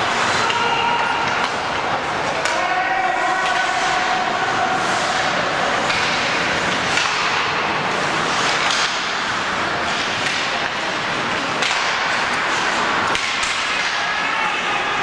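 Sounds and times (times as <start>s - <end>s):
arena noise: 0.0s - 15.0s
hockey sticks and puck cracking: 0.0s - 15.0s.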